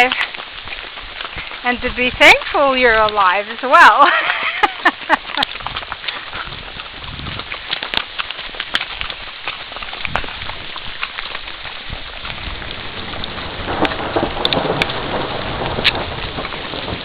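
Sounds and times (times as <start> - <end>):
rain falling: 0.0 - 17.0
raindrops ticking close by: 0.0 - 17.0.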